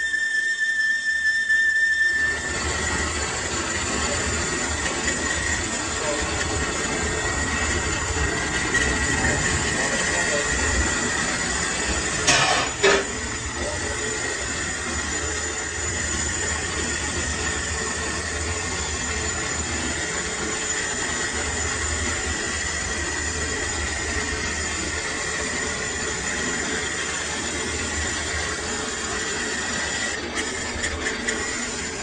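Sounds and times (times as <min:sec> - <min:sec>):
lathe motor hum and whine: 0:00.0 - 0:32.0.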